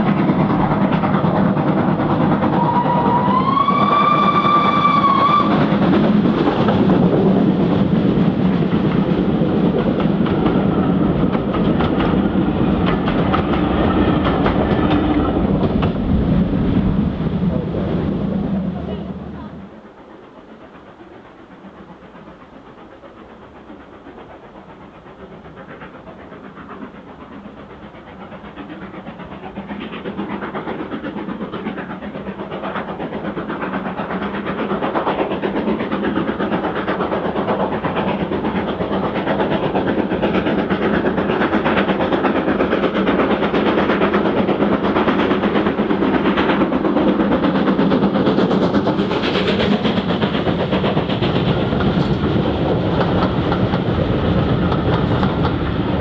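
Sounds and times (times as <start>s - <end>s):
steam train running: 0.0s - 56.0s.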